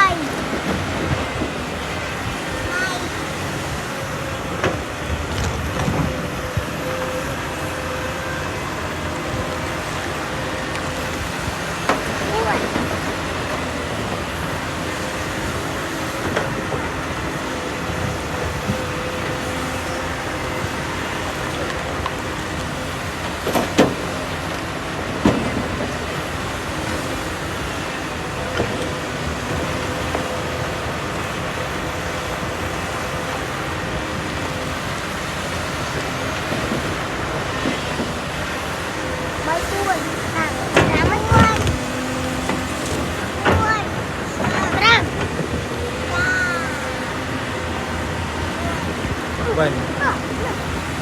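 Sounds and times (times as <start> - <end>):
heavy earthmoving machinery running: 0.0 - 51.0.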